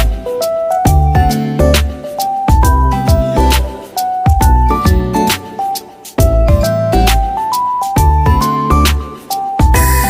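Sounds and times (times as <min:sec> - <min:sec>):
music with bass and drum beat: 0:00.0 - 0:10.0.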